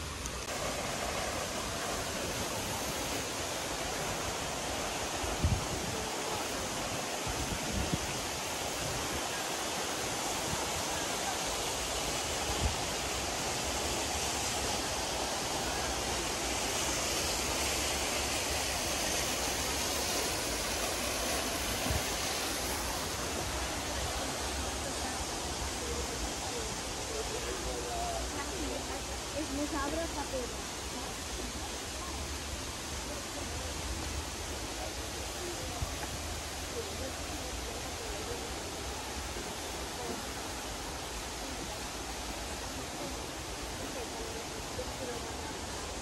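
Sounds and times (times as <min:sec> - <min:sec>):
falling water rushing: 0:00.0 - 0:46.0.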